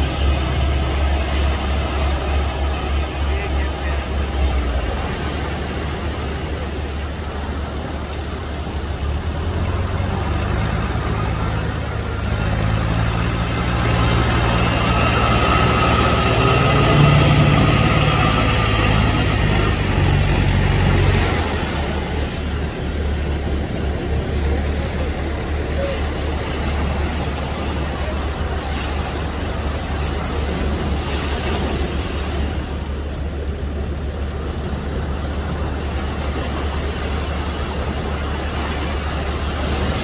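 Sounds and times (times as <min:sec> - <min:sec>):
outboard motors running: 0:00.0 - 0:40.0
waves washing in: 0:00.0 - 0:40.0.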